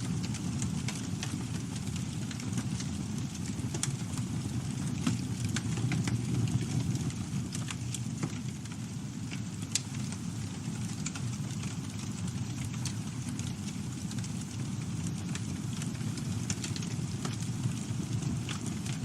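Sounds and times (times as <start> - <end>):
campfire flames rumbling: 0.0 - 19.0
fire crackles and pops: 0.0 - 19.0.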